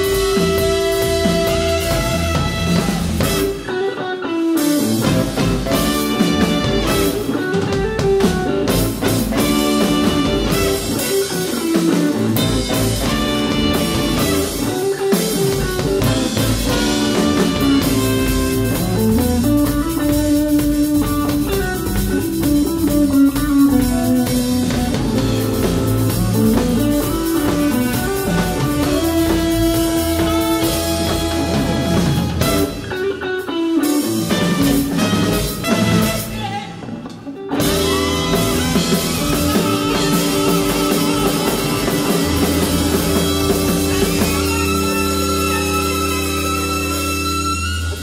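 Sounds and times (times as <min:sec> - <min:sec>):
horn section melody: 0:00.0 - 0:03.9, 0:05.0 - 0:07.5, 0:08.7 - 0:19.8, 0:24.2 - 0:33.2, 0:34.1 - 0:36.5, 0:37.6 - 0:48.0
electric bass: 0:00.0 - 0:36.7, 0:37.5 - 0:48.0
drum kit: 0:00.0 - 0:48.0
electric guitar: 0:00.0 - 0:48.0.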